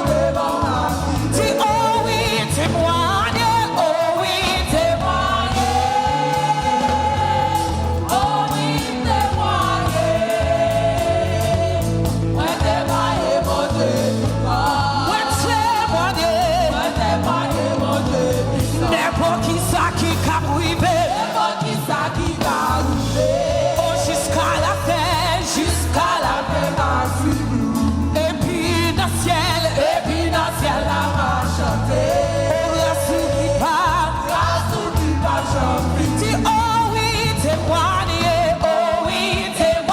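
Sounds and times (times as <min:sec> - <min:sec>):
bass line: 0:00.0 - 0:21.2, 0:22.2 - 0:39.9
drums: 0:00.0 - 0:39.9
gospel song sung by praise team: 0:00.0 - 0:39.9.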